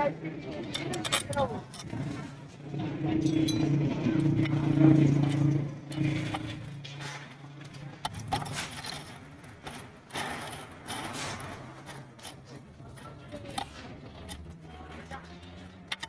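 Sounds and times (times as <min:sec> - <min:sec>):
clinks of tools and metal parts: 0:00.4 - 0:16.0.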